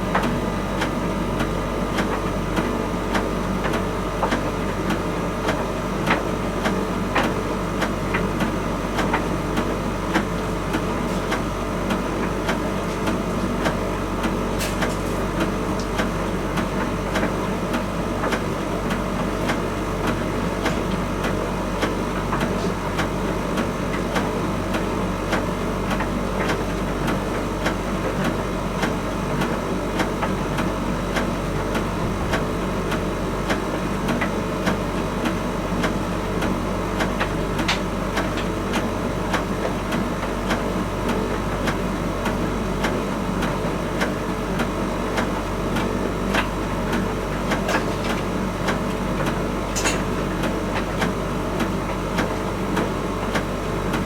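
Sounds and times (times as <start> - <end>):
tumble dryer running: 0.0 - 54.0.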